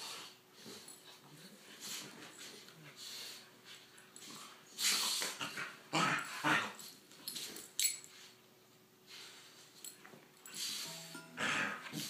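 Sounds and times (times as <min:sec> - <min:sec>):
dogs play-wrestling: 0:00.0 - 0:12.0.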